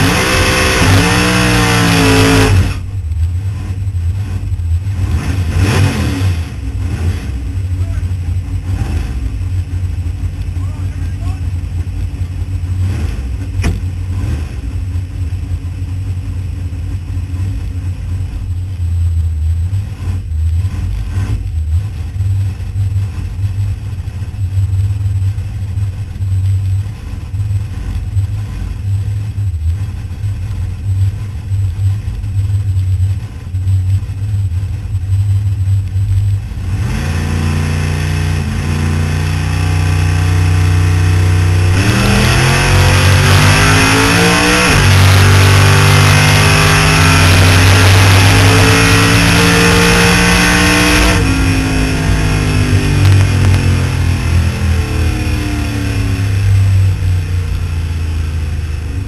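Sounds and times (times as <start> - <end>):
race car engine idling: 2.5 - 5.6, 6.4 - 36.9, 44.6 - 59.0.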